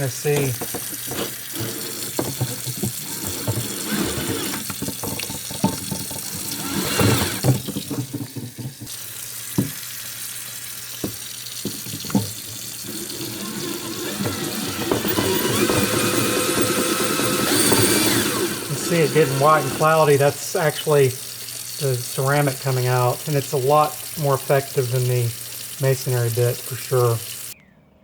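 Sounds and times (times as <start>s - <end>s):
tap water running onto pot: 0.0s - 27.6s.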